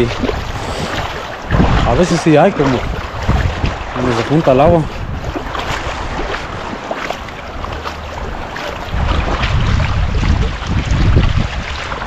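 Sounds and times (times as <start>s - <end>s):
river water running: 0.0s - 12.0s
wind buffeting microphone: 0.0s - 12.0s.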